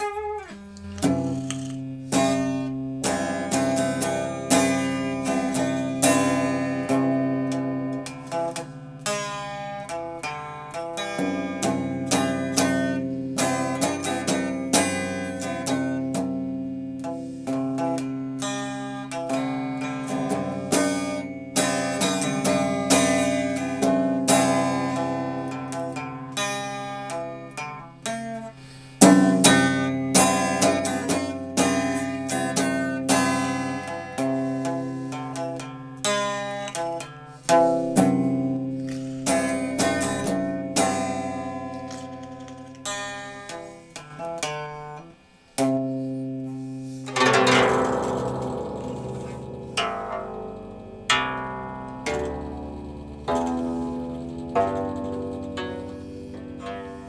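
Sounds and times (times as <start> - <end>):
plucked string instrument music: 0.0 - 57.0.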